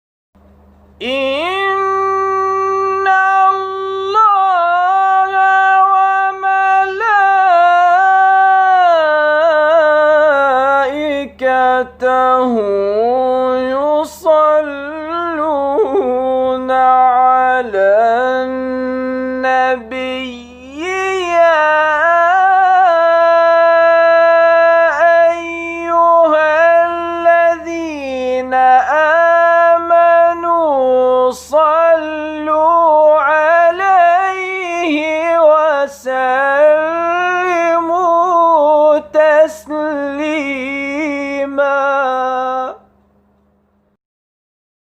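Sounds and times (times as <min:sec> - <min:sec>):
man chanting: 0:01.0 - 0:42.9.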